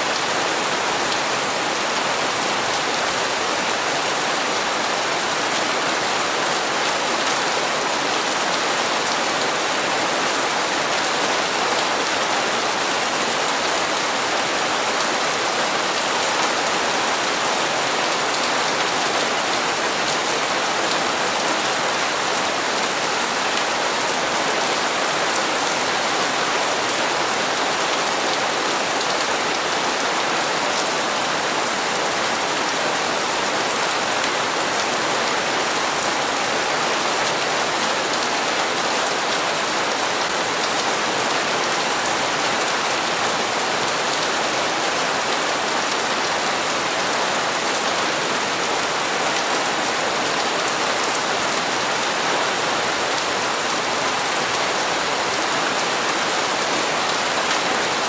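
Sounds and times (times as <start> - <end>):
heavy rain on hard surfaces: 0.0 - 58.0.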